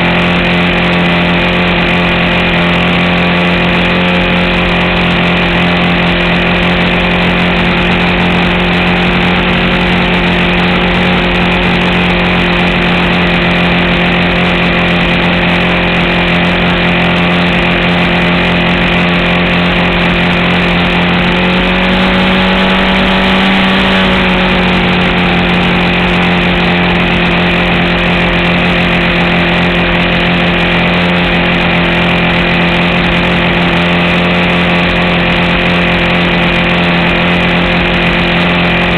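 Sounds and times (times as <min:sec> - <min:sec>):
model airplane motor and propeller: 0:00.0 - 0:38.9.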